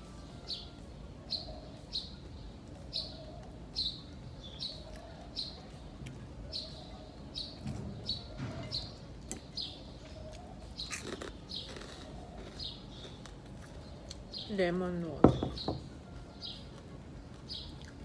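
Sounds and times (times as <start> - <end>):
small bird chirping: 0.0 - 14.6.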